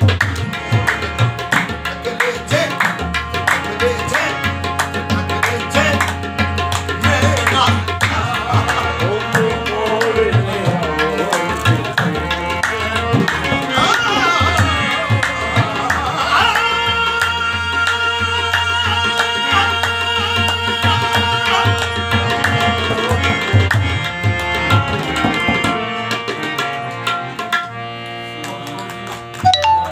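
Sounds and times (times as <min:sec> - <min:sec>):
harmonium held notes: 0:00.0 - 0:29.9
tabla rhythm: 0:00.0 - 0:29.9.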